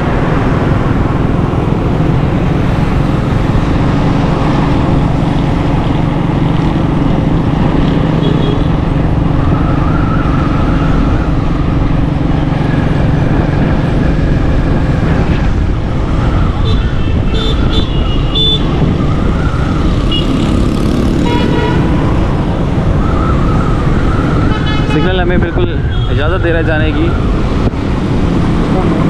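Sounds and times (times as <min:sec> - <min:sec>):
vehicle engine hum and road noise: 0:00.0 - 0:29.0.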